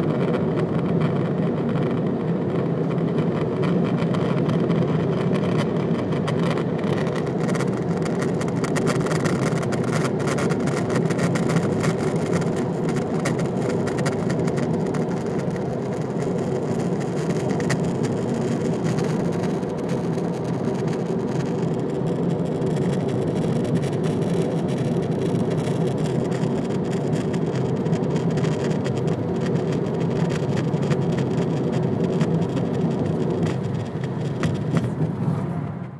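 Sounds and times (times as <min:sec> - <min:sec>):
car running noise inside: 0:00.0 - 0:35.9.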